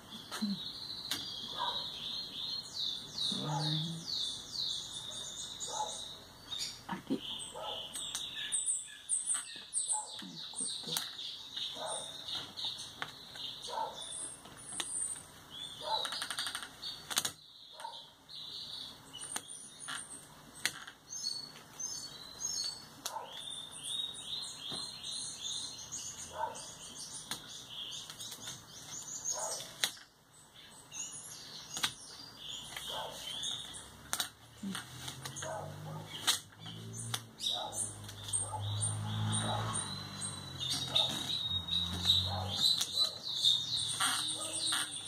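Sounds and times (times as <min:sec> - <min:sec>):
small bird chirping: 0:00.0 - 0:45.0.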